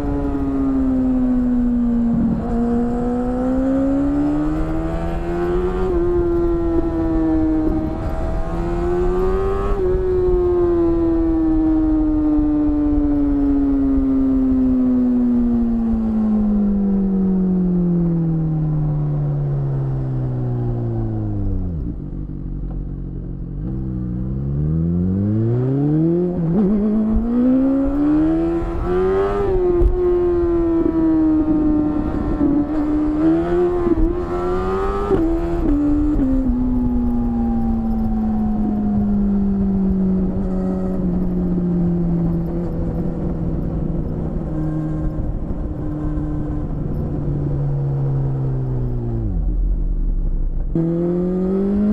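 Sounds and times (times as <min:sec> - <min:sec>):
motorcycle engine revving: 0:00.0 - 0:19.1, 0:19.7 - 0:49.8, 0:50.6 - 0:51.9.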